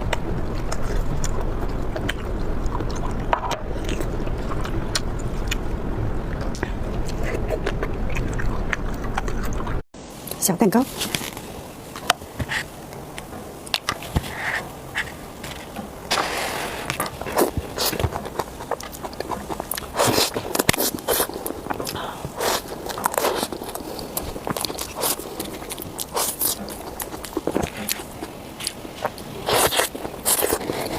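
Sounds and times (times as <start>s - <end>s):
biting and chewing: 0.0s - 5.7s, 6.3s - 9.8s, 10.9s - 30.9s
crackling bursts: 0.0s - 30.9s.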